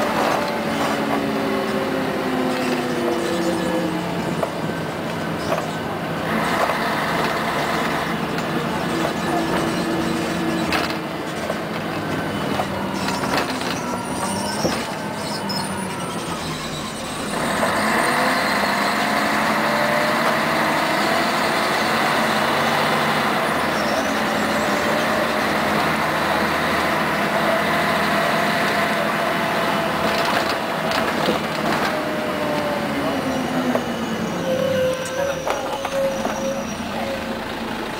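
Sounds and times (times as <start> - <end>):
bus interior rattles and knocks: 0.0 - 34.1, 34.8 - 37.9
bus engine and drivetrain noise: 0.0 - 37.9
drivetrain whine: 0.0 - 37.9.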